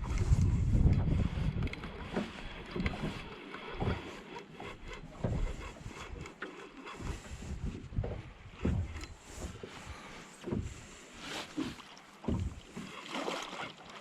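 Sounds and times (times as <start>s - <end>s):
thumps and knocks against boat hull: 0.4s - 6.4s, 7.0s - 13.0s.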